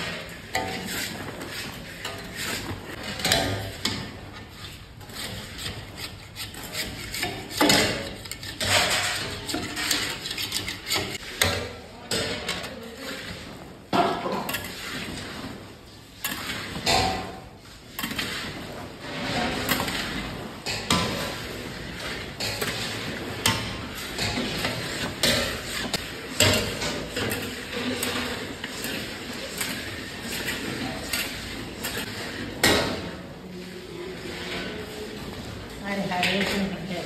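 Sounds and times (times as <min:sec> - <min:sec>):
metal utensils clattering on pan: 0:00.0 - 0:33.4, 0:34.1 - 0:37.0
steady background noise: 0:00.0 - 0:37.0.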